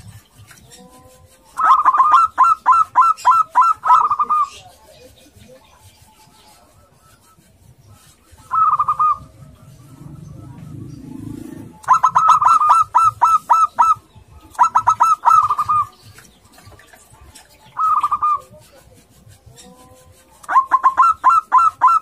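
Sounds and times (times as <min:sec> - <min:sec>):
dove cooing staccato call: 0:00.0 - 0:22.0.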